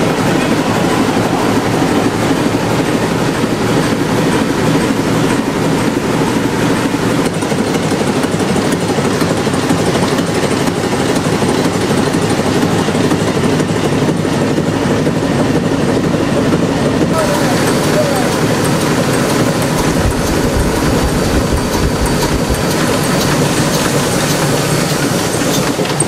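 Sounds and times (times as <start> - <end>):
large engine knocking steadily: 0.0 - 26.0.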